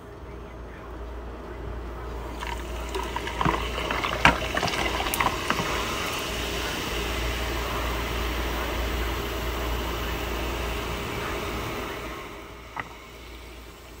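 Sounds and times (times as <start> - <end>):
fizzy drink pouring over ice: 2.1 - 14.0.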